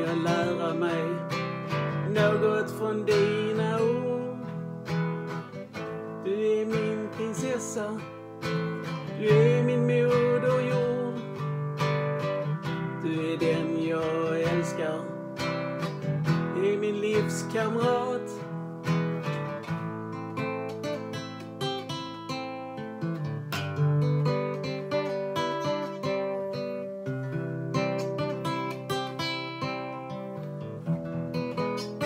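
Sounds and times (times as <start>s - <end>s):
classical guitar chords: 0.0s - 32.0s.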